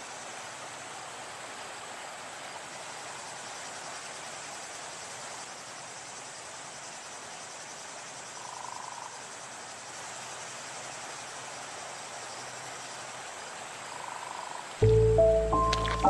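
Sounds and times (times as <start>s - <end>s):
insects chirring: 2.5s - 16.0s.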